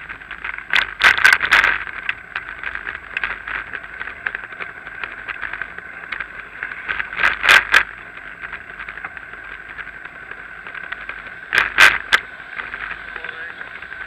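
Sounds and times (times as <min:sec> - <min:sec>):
bicycle rattling over paving slabs: 0:00.0 - 0:14.0.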